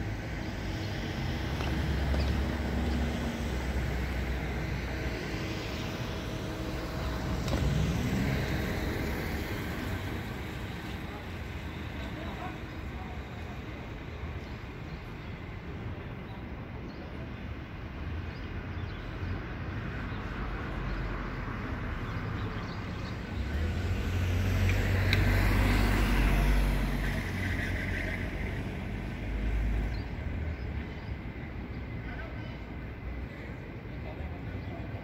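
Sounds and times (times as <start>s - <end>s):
traffic hum: 0.0s - 35.0s.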